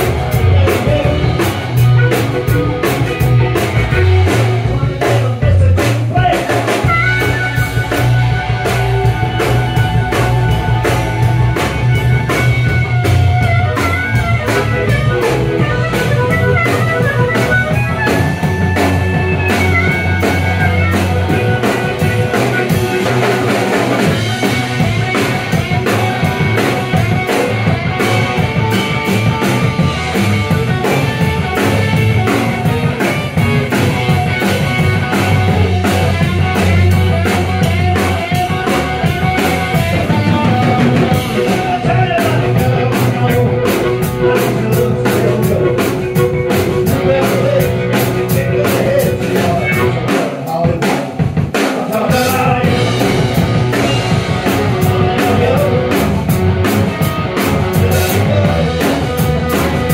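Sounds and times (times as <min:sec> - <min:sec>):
drum kit with cymbals: 0:00.0 - 0:59.9
electric guitar lead line: 0:00.0 - 0:59.9
rock band playing: 0:00.0 - 0:59.9.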